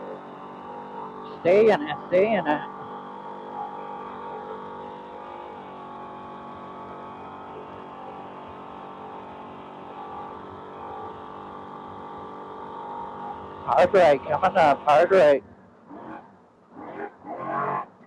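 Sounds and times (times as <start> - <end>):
race vehicle engine at high revs: 0.0 - 18.0.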